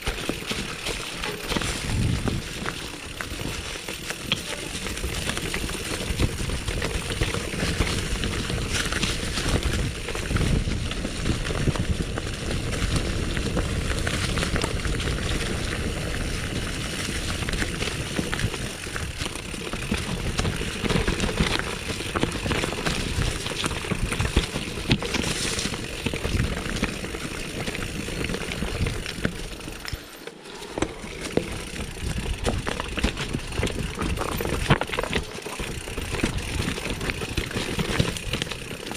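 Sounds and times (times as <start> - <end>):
bike frame and chain clattering: 0.0 - 38.9
bike tyres rumbling over stones: 0.0 - 38.9.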